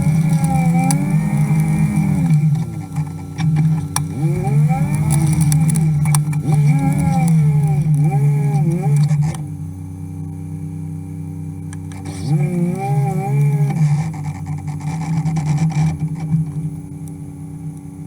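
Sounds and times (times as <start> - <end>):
utility vehicle engine revving: 0.0 - 18.0.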